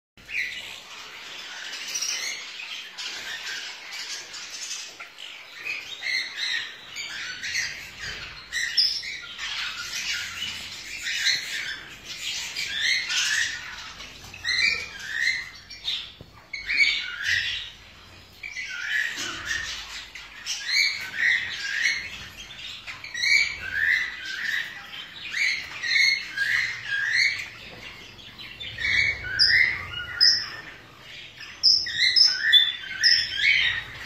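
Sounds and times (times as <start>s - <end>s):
parakeets chirping and squawking: 0.2s - 34.0s.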